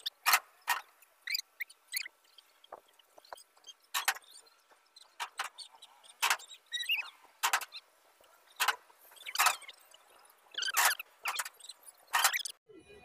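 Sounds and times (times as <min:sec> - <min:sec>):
sharp clicks and knocks: 0:00.0 - 0:01.2, 0:02.0 - 0:12.6.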